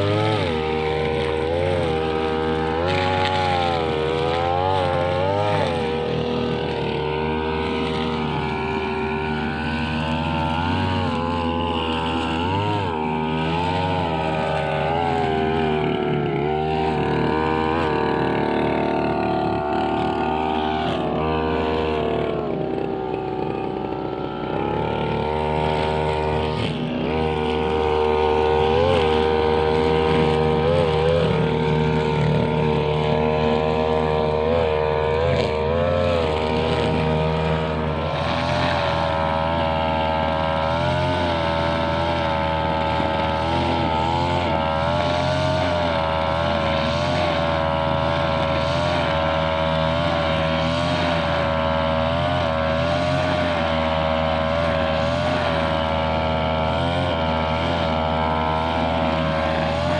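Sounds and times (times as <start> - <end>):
brushcutter engine running: 0.0 - 59.9.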